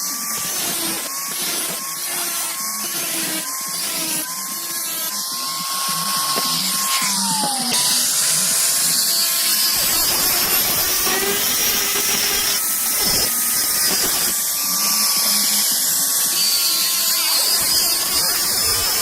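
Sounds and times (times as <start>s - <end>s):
power tool motor whine: 0.0s - 19.0s.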